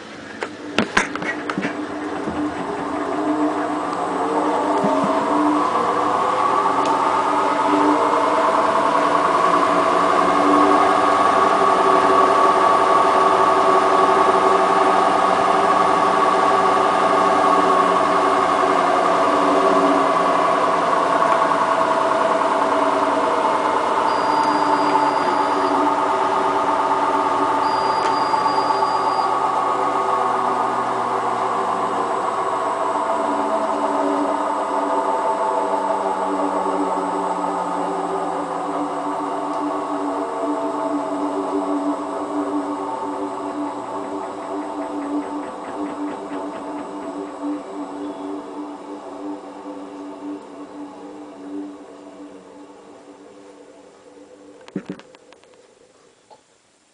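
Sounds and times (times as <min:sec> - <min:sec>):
washing machine motor whine: 0:00.0 - 0:55.4.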